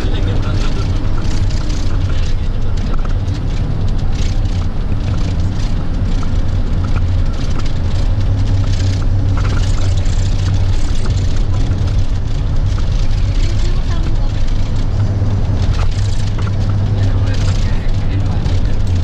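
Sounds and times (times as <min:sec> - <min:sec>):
tyre and wind noise: 0:00.0 - 0:19.0
vehicle engine drone: 0:00.0 - 0:19.0.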